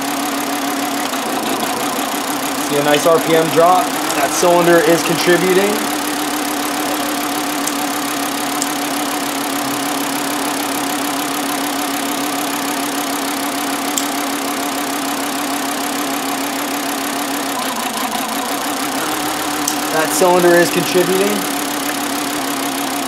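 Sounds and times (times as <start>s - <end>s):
car engine idling rough: 0.0s - 23.0s.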